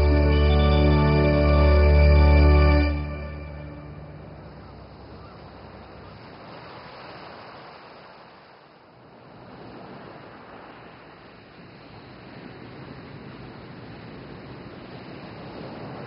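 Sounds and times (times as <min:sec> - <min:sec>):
soft steady rushing noise: 0:00.0 - 0:16.0.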